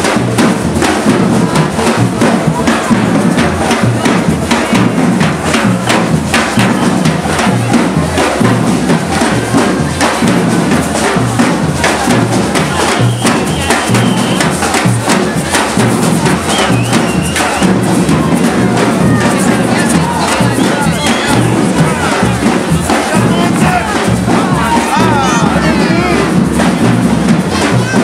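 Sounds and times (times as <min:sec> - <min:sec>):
crowd noise: 0:00.0 - 0:28.0
street drums beating: 0:00.0 - 0:28.0.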